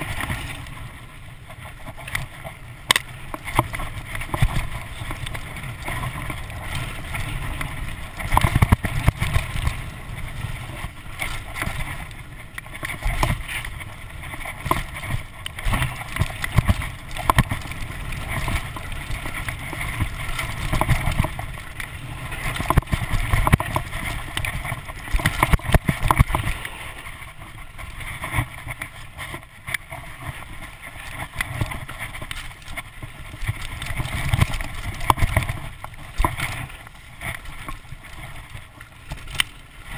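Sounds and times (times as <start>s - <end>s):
bike knocking and rattling: 0.0s - 39.9s
tyres rumbling over dirt: 0.0s - 39.9s.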